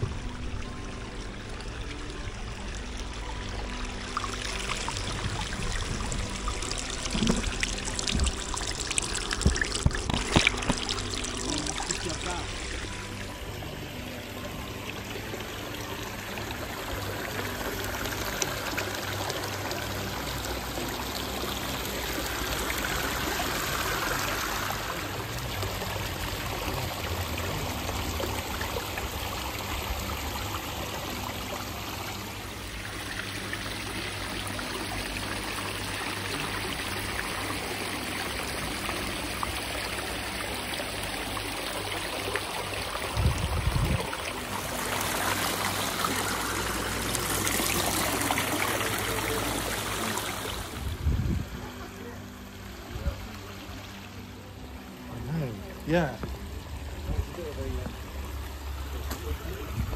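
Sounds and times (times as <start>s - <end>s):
waterfall splashing into a pond: 0.0s - 51.0s, 55.1s - 59.9s.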